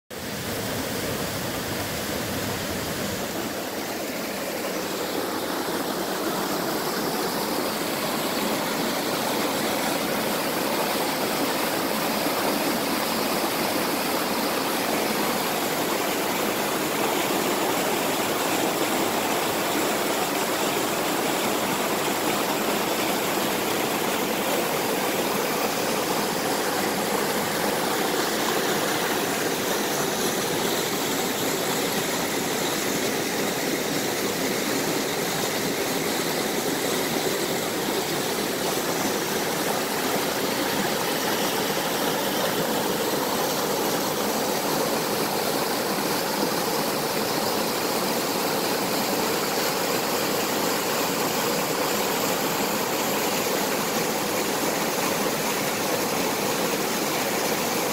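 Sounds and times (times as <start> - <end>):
stream rushing over boulders: 0.1 - 57.9.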